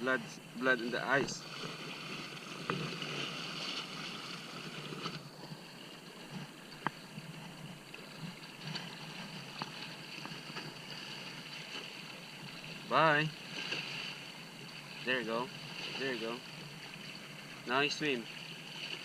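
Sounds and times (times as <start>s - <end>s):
water washing on shore: 0.0s - 19.0s
wind: 0.0s - 19.0s.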